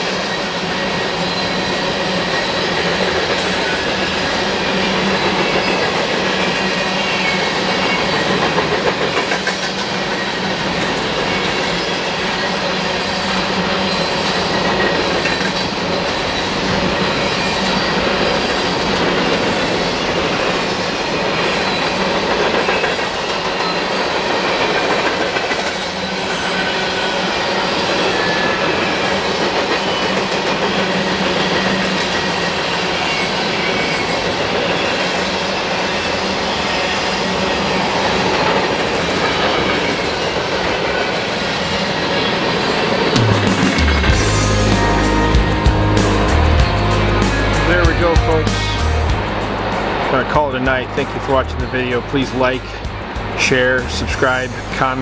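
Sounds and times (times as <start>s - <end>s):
steel wheels rolling on rails: 0.0s - 44.1s.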